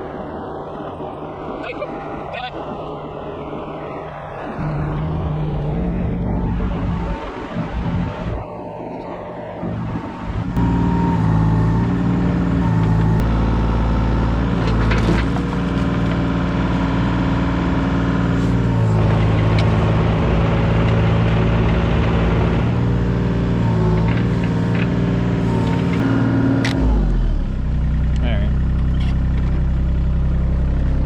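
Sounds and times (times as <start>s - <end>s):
mini excavator engine running: 4.6s - 31.0s.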